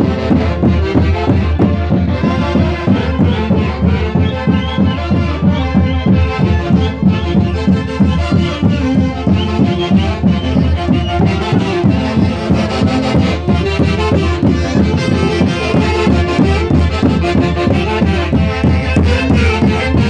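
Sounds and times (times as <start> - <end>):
sustained melody instruments: 0.0 - 20.0.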